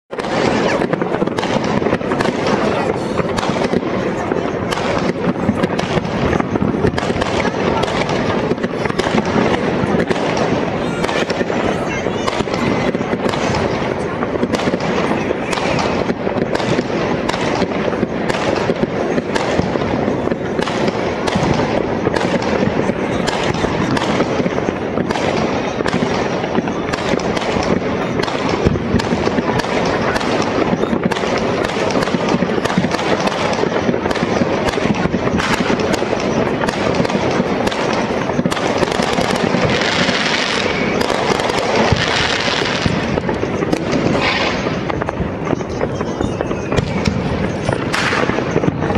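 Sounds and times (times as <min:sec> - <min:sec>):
fireworks and firecrackers crackling: 0:00.0 - 0:48.9.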